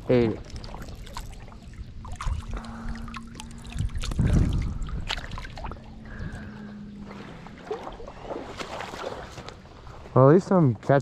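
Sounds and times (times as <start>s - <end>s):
river water splashing and trickling: 0.0s - 11.0s.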